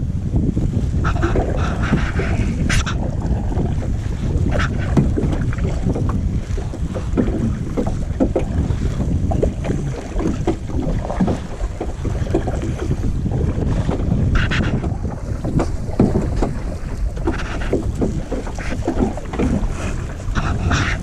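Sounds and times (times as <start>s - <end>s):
water lapping against kayak: 0.0s - 21.0s
wind buffeting microphone: 0.0s - 21.0s.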